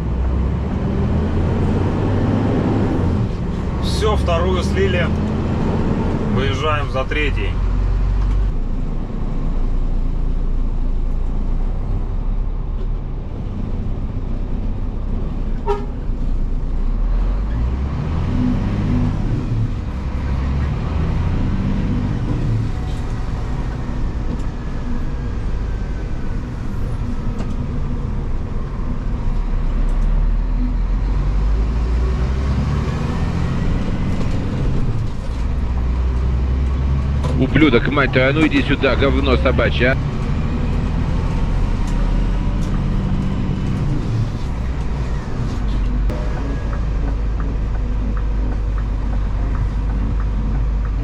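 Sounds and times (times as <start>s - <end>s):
truck diesel engine running: 0.0s - 51.0s.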